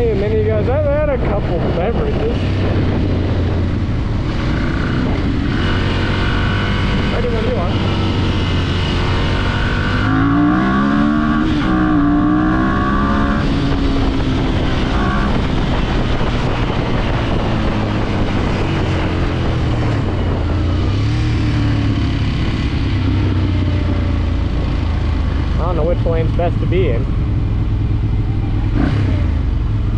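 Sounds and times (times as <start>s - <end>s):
motorcycle engine accelerating: 0.0s - 29.9s
road and wind noise: 0.0s - 29.9s.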